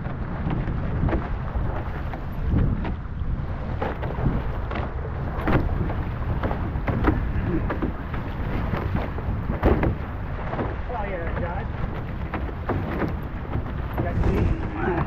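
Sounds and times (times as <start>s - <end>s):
water splashing against hull: 0.0s - 15.0s
wind rumbling on microphone: 0.0s - 15.0s.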